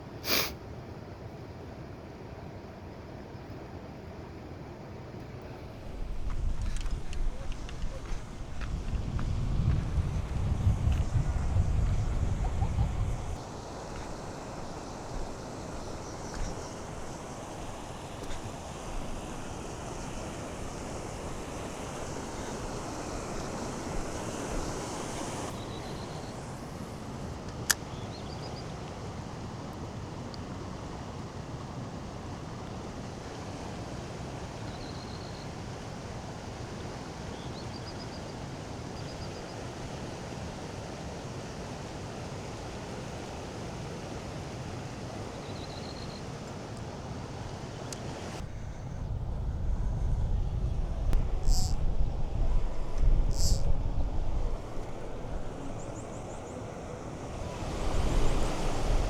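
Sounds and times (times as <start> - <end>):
wind: 0.0 - 59.0
lake water: 5.2 - 59.0.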